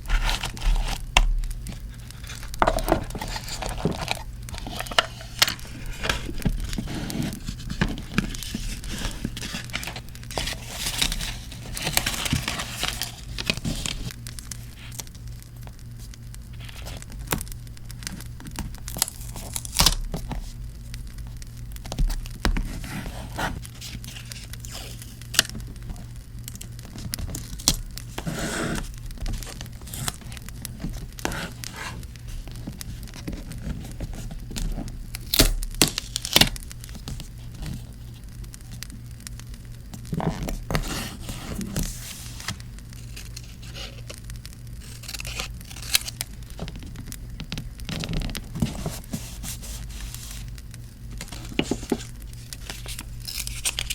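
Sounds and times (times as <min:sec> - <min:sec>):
paper rustling and tearing: 0:00.0 - 0:15.1, 0:16.5 - 0:18.2, 0:22.1 - 0:26.0, 0:27.0 - 0:38.0, 0:40.1 - 0:44.2, 0:44.8 - 0:46.7, 0:47.8 - 0:53.9.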